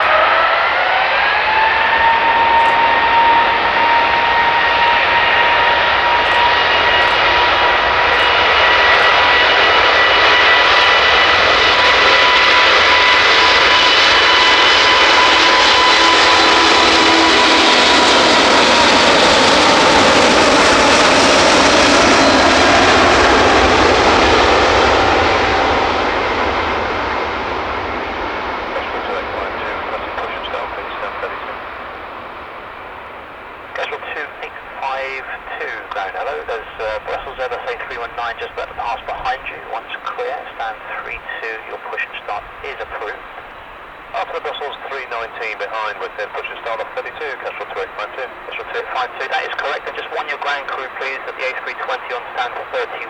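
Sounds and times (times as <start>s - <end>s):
jet aircraft passing: 0.0s - 53.0s.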